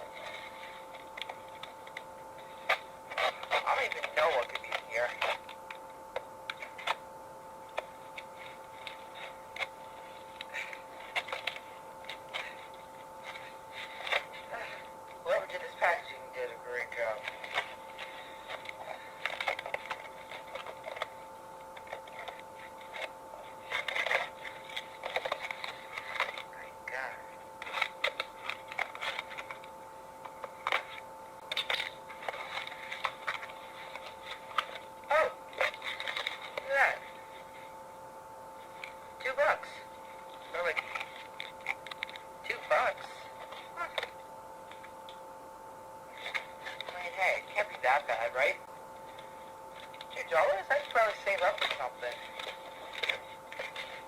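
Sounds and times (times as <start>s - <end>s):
faint two-tone hum: 0.0s - 54.0s.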